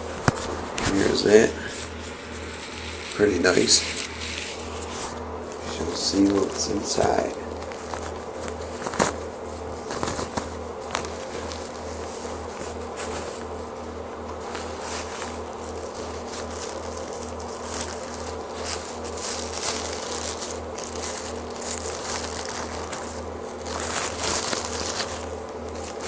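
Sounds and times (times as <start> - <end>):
low electrical buzz: 0.0 - 26.0
packaging rustling and crinkling: 0.0 - 26.0.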